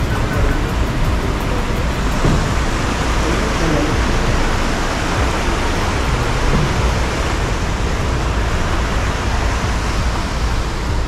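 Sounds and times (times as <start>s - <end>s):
car road and wind noise: 0.0s - 11.0s
low rumble: 0.0s - 11.0s.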